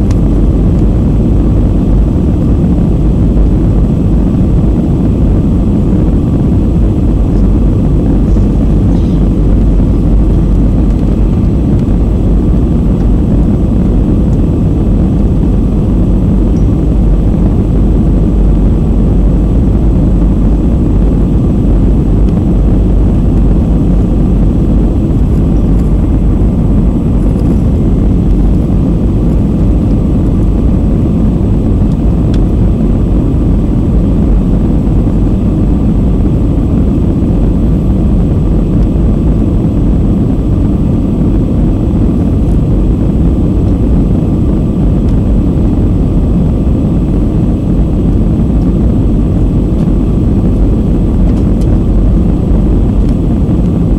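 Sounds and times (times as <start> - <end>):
faint steady whine: 0.0 - 53.9
jet cabin engine rumble: 0.0 - 53.9.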